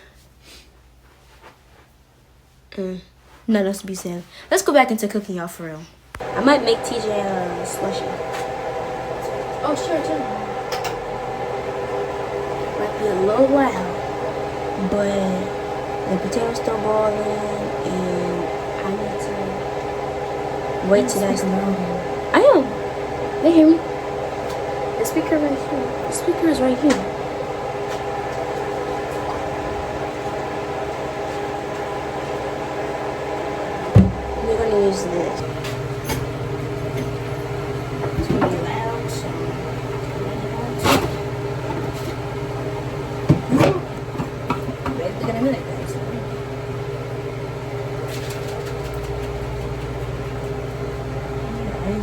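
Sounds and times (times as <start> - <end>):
appliance motor humming: 6.1 - 52.0.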